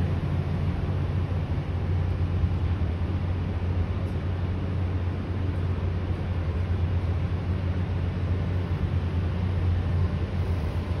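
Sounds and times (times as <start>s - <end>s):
street noise rumble: 0.0s - 11.0s.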